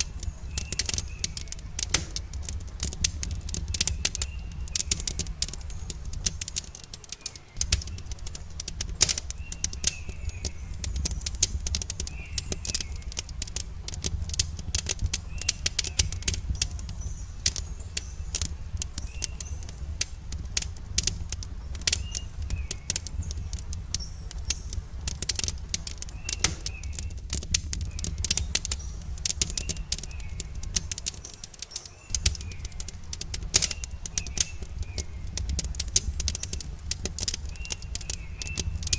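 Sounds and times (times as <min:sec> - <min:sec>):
campfire crackling and popping: 0:00.0 - 0:38.9
small bird chirping: 0:00.0 - 0:38.9.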